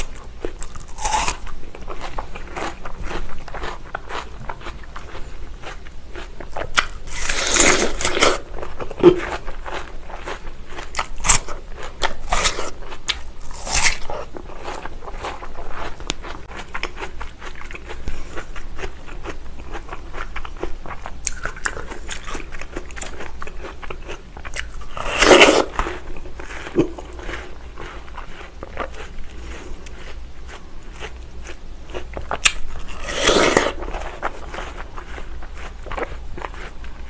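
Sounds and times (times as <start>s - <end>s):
watermelon crunching: 0.0s - 37.0s.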